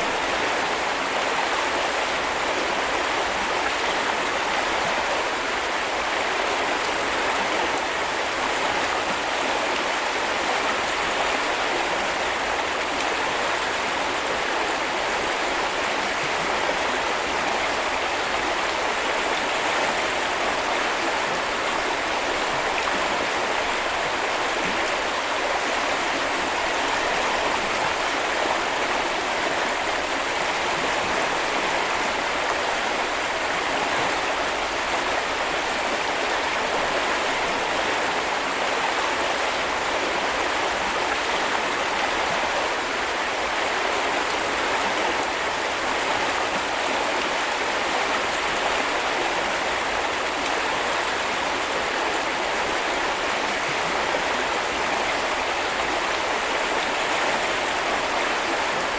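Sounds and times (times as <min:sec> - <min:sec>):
river water rushing over stones: 0:00.0 - 0:58.9.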